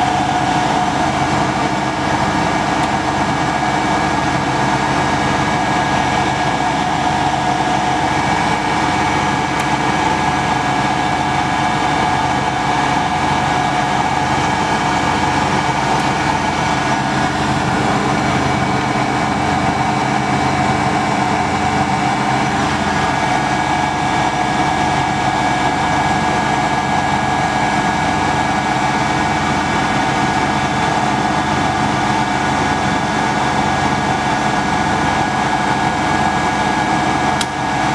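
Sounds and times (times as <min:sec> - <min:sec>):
lathe motor whining: 0:00.0 - 0:37.9.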